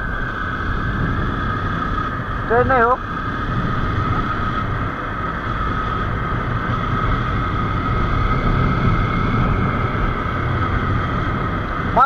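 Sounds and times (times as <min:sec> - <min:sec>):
motorcycle engine running: 0:00.0 - 0:12.0
road and riding noise: 0:00.0 - 0:12.0.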